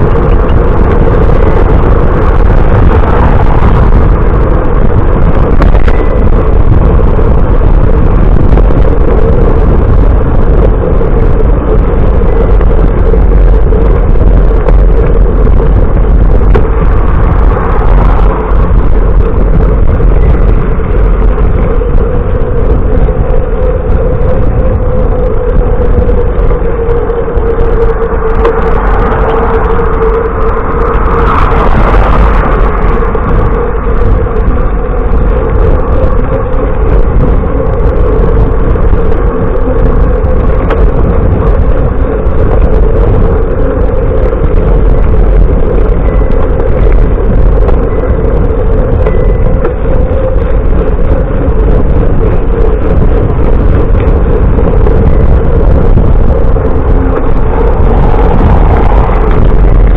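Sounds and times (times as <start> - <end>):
wind noise on camera: 0.0 - 59.9.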